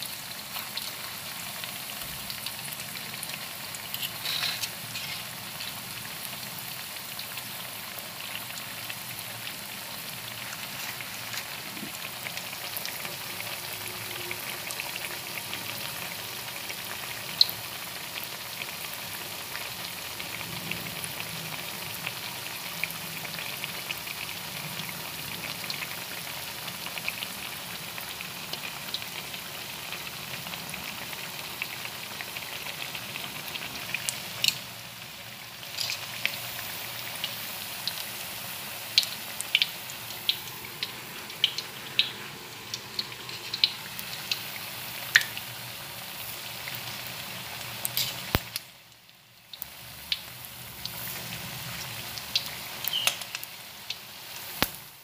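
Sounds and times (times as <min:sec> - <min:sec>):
patties deep-frying in hot oil: 0:00.0 - 0:55.0.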